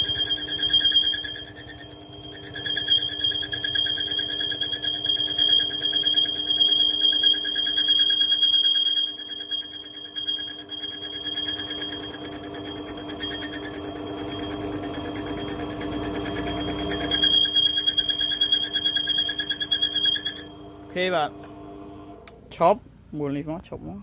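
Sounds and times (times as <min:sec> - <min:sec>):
metal lathe whining: 0:00.0 - 0:21.1.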